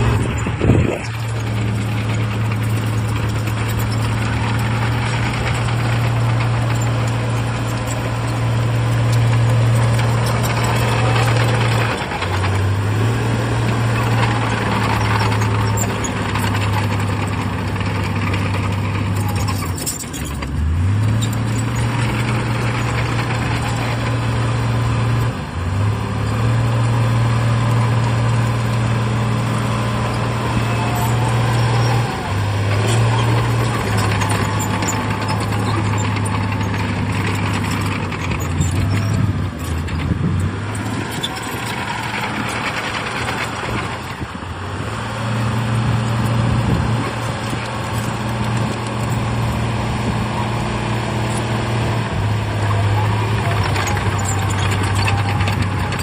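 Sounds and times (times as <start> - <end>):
machinery working: 0.0 - 25.2, 27.2 - 44.5, 45.2 - 56.0
bulldozer diesel engine running: 0.0 - 56.0.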